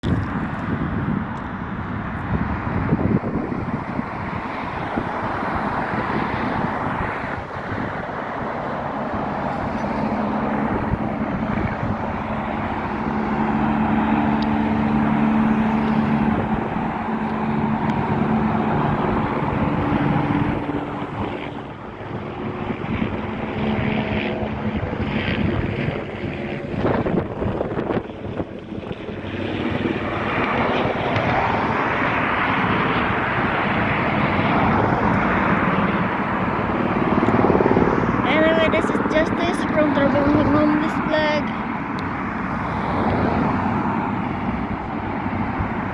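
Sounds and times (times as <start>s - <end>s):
aircraft engine hum: 0.0s - 45.9s.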